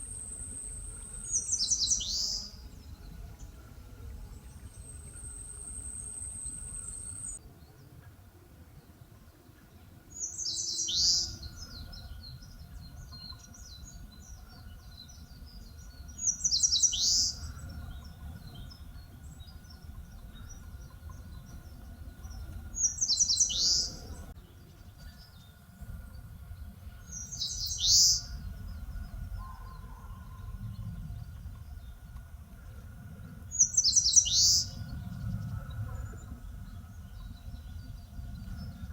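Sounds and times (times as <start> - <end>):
warbler singing: 0.0 - 8.2, 8.8 - 38.9.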